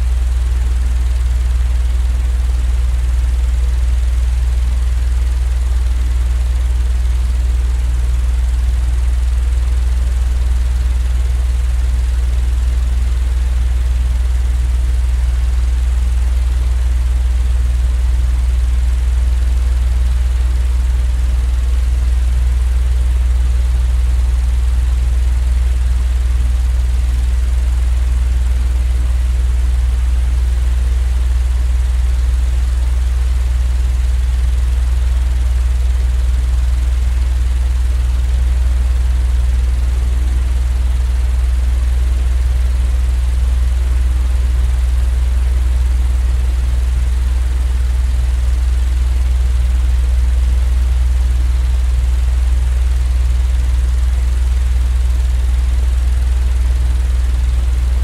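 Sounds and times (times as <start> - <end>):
low mechanical drone with hiss: 0.0 - 33.6, 36.0 - 51.0.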